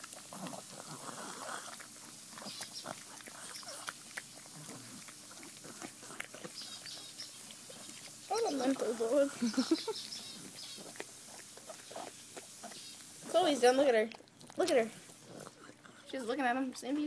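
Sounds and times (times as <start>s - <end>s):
dog chewing wet smacking: 0.0s - 17.0s.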